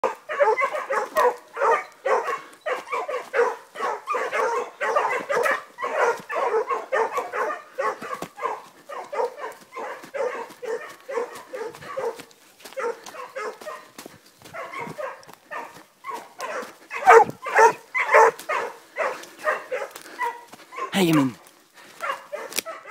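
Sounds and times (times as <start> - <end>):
hunting dogs baying: 0.0 - 22.9.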